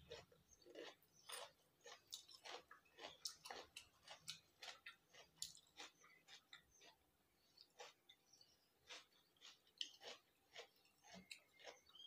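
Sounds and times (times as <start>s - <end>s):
soft chewing and lip smacks: 0.0s - 12.0s.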